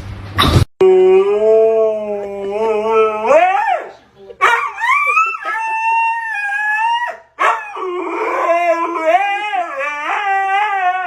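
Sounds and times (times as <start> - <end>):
dog howling: 0.8 - 11.0.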